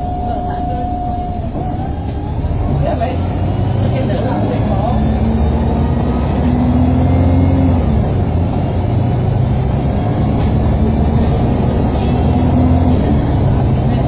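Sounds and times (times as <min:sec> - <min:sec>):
bus diesel engine hum: 0:00.0 - 0:14.0
road noise: 0:00.0 - 0:14.0.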